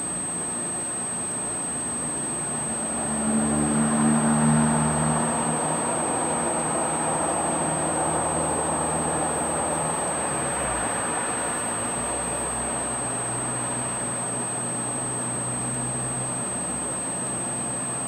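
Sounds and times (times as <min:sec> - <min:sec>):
thin high-pitched whine: 0:00.0 - 0:18.0.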